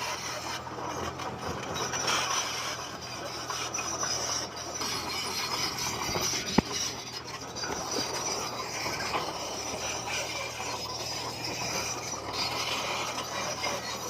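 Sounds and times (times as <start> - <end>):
bulldozer engine running: 0.0 - 14.0
steel tracks clanking and scraping: 0.0 - 14.0.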